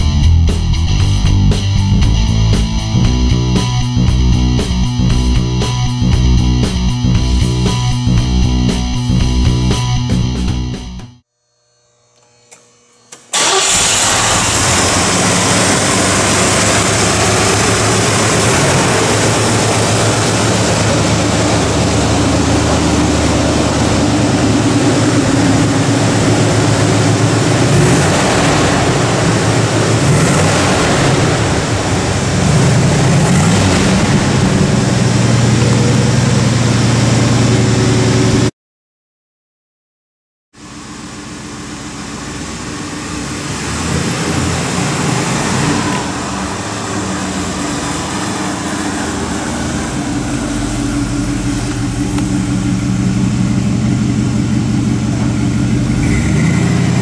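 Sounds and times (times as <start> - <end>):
car engine starting and revving: 0.0 - 10.9, 13.3 - 38.5, 40.7 - 57.0.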